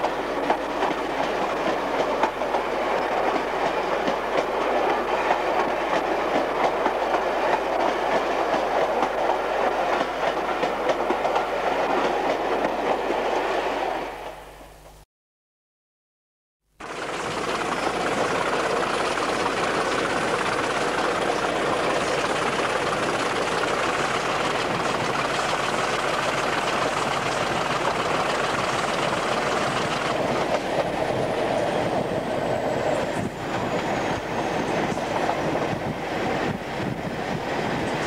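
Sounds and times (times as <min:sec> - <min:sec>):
train wheels rumbling on track: 0:00.0 - 0:14.5, 0:16.8 - 0:38.0.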